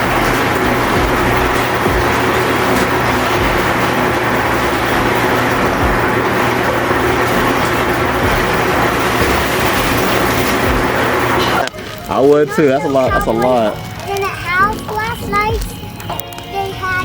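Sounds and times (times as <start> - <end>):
low motor hum: 0.0 - 16.1
hot tub water churning: 0.0 - 17.0.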